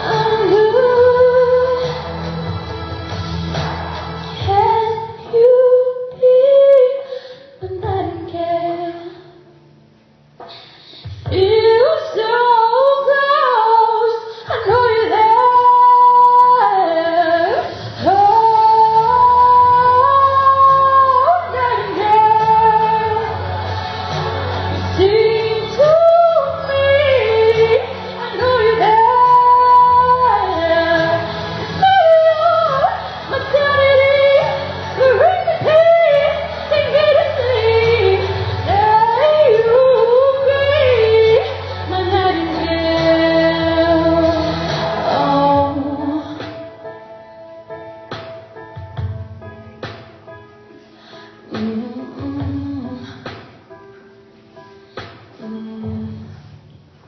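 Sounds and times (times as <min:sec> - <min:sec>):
young woman singing pop ballad: 0:00.0 - 0:09.5, 0:10.4 - 0:47.2, 0:50.8 - 0:54.1, 0:54.9 - 0:56.6
musical accompaniment: 0:00.0 - 0:57.0.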